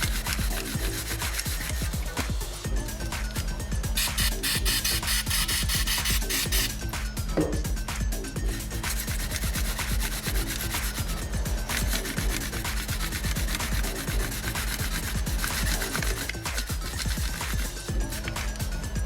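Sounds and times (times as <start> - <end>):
gritty rubbing on metal: 0.0 - 2.6, 4.0 - 6.9, 8.4 - 18.9
background music with steady beat: 0.0 - 19.0.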